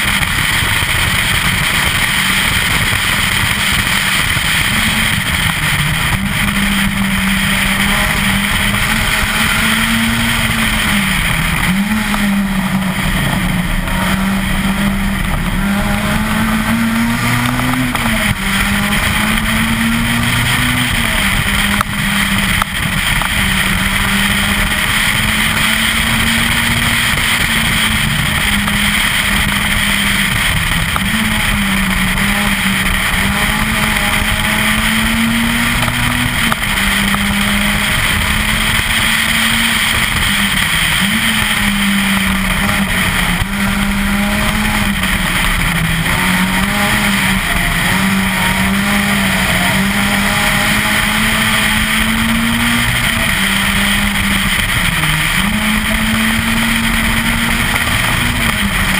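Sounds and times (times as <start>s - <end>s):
car engine revving high: 0.0s - 58.9s
road and wind noise: 0.0s - 58.9s.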